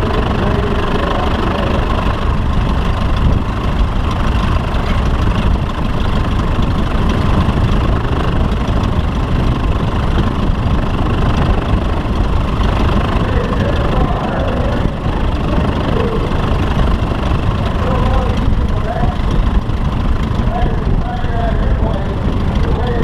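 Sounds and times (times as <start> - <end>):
engine running steadily: 0.0 - 23.0
wind rumble on microphone: 0.0 - 23.0.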